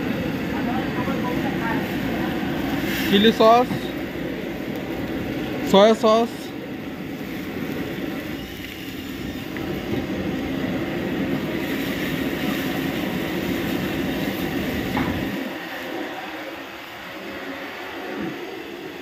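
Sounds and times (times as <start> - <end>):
gas burner roaring: 0.0 - 19.0.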